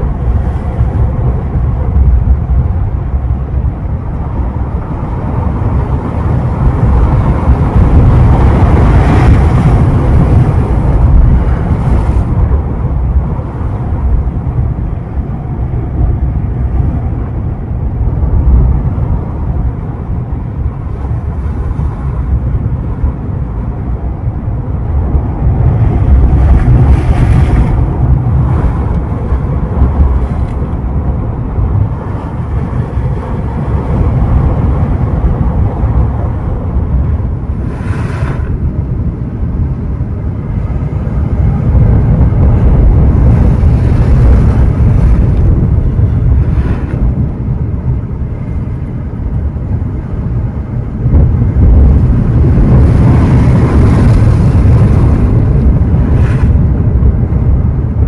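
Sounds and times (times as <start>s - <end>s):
ocean waves washing ashore: 0.0s - 58.0s
waves breaking: 0.0s - 58.0s
wind buffeting microphone: 0.0s - 58.0s.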